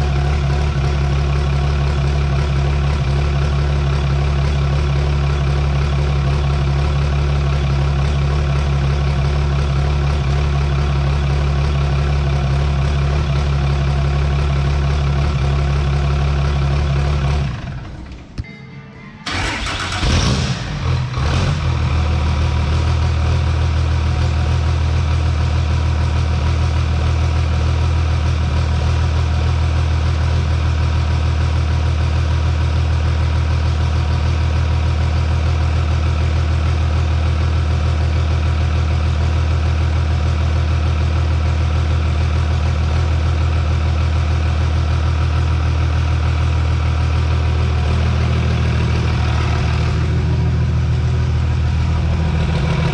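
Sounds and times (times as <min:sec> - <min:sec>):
diesel engine idling: 0:00.0 - 0:18.4, 0:19.2 - 0:52.9.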